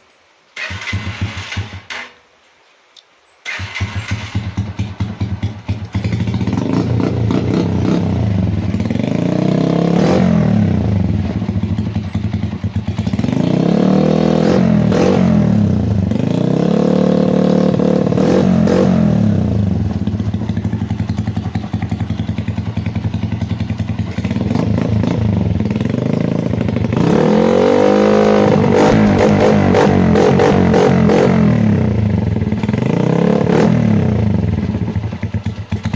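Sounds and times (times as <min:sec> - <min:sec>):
motorcycle engine idling and revving: 0:00.6 - 0:02.1, 0:03.4 - 0:35.9.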